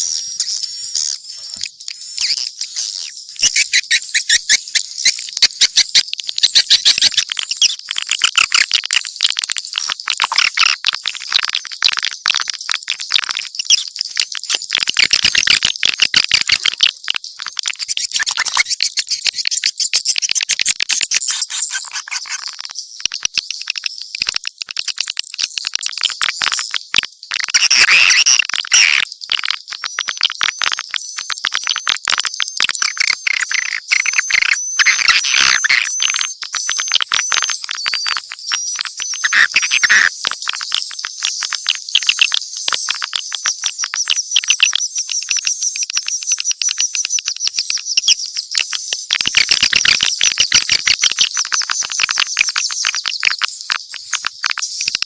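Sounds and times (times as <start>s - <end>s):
swiftlets twittering and clicking: 0.0s - 55.0s.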